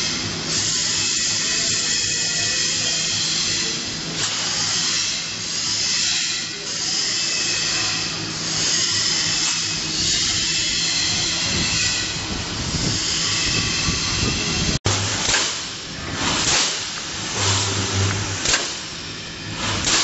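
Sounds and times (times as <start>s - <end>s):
low welding transformer buzz: 0.0s - 20.0s
welding heads clanking: 0.0s - 20.0s.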